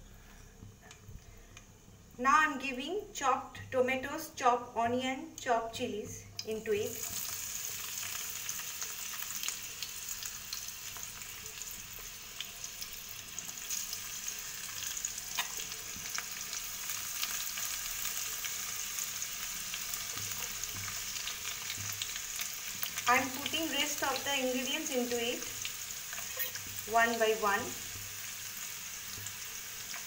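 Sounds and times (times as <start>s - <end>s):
vegetables sizzling in oil: 5.6s - 30.0s.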